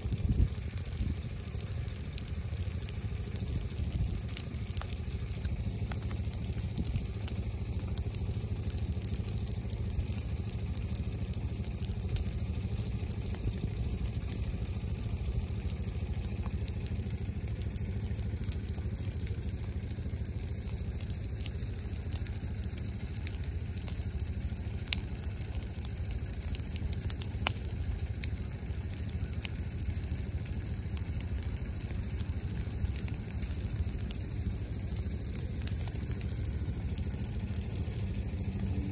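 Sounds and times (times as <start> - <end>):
fire crackling in dry leaves: 0.0 - 38.9
low rumble: 0.0 - 38.9.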